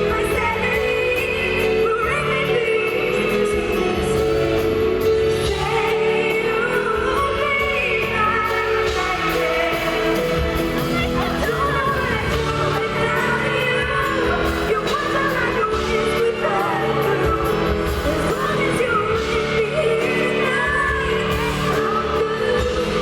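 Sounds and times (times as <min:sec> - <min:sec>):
band chords: 0:00.0 - 0:23.0
woman singing: 0:00.0 - 0:23.0.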